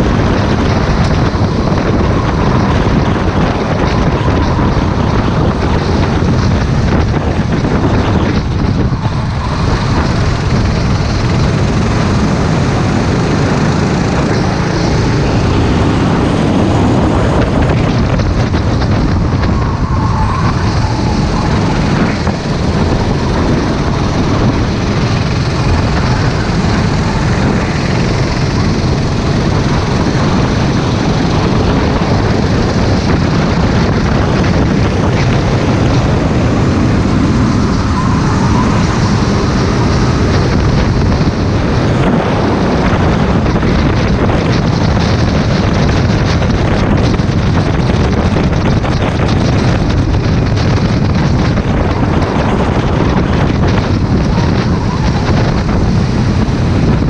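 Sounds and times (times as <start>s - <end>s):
kart engine at race pace: 0.0s - 57.0s
other karts running: 0.0s - 57.0s.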